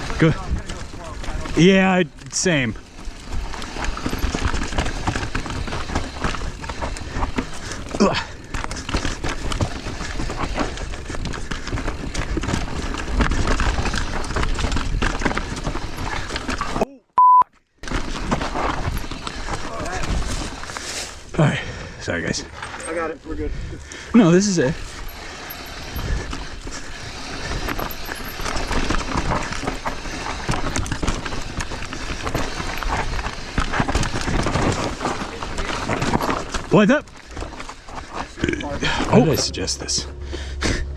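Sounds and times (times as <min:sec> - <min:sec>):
bike clattering over rocks: 0:00.0 - 0:16.8, 0:17.8 - 0:21.1, 0:24.7 - 0:39.4.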